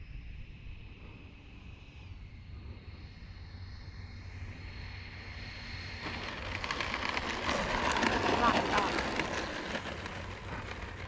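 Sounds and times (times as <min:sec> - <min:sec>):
electric fan whine: 0:01.9 - 0:11.0.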